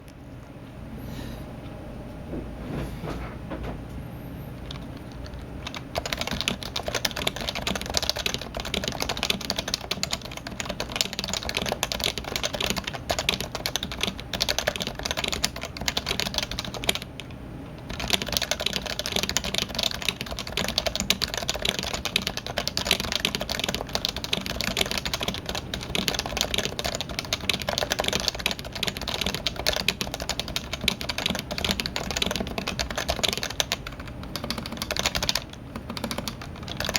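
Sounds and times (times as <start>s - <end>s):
fast keyboard typing: 4.6s - 36.9s.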